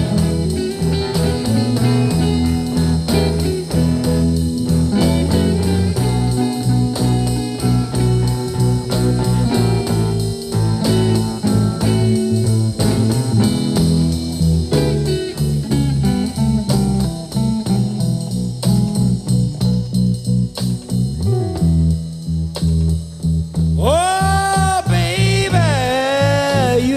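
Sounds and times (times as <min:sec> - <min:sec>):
blues guitar playing: 0:00.0 - 0:26.9.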